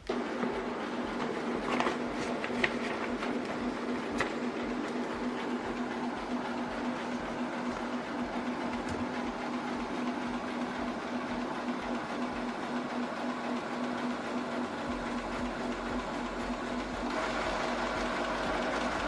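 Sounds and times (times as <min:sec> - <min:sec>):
lower hum: 0:00.0 - 0:19.0
scanner motor humming: 0:00.0 - 0:19.0.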